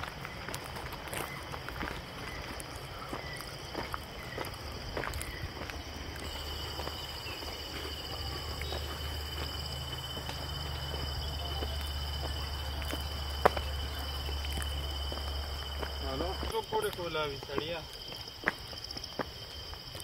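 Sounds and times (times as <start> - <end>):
footsteps on gravel: 0.0 - 20.0
insects droning: 0.0 - 20.0.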